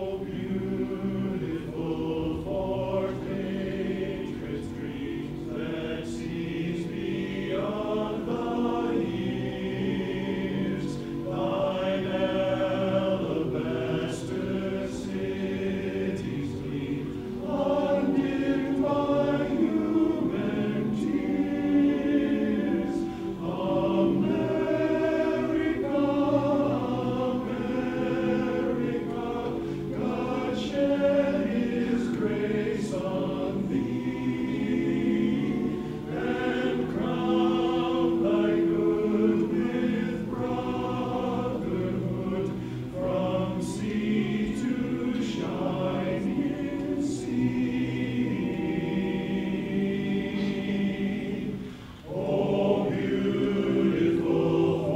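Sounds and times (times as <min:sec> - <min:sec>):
men's chorus singing a cappella: 0:00.0 - 0:54.9.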